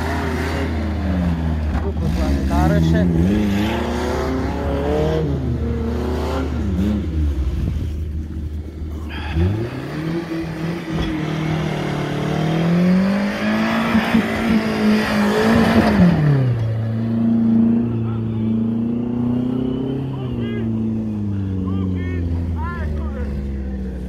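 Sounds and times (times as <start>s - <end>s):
vehicle engine revving hard: 0.0s - 7.6s, 9.1s - 22.5s.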